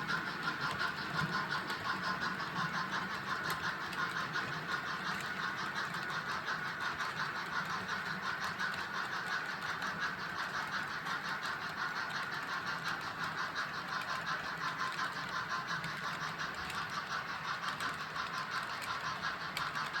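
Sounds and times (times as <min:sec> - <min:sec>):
train wheels clattering: 0:00.0 - 0:20.0.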